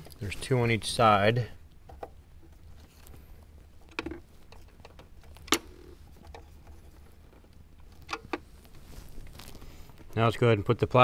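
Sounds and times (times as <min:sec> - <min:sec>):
faint handling noise: 0:01.8 - 0:11.0.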